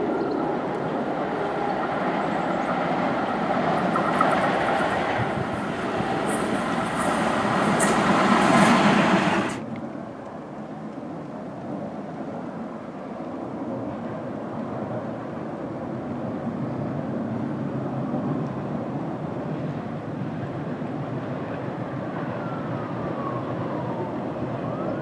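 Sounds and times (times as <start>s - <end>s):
streetcar running on rails: 0.0s - 25.0s.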